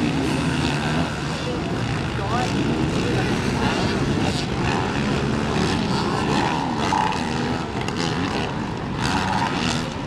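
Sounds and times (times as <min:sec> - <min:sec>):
motocross engines revving: 0:00.0 - 0:10.0.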